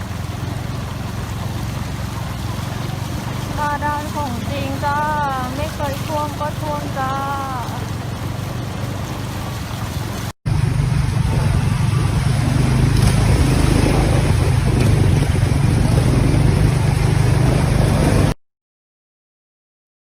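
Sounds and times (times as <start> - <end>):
vehicle engine running: 0.0 - 18.4.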